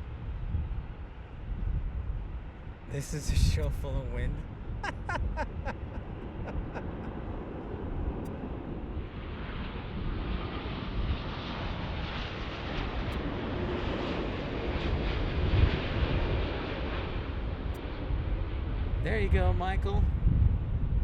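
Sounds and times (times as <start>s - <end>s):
wind buffeting microphone: 0.0s - 13.2s, 14.6s - 21.0s
jet airliner roar: 0.2s - 21.0s.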